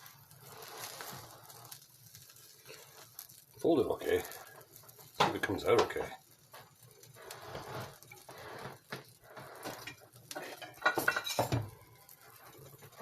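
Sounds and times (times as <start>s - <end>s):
utensil scraping frying pan: 0.0s - 13.0s.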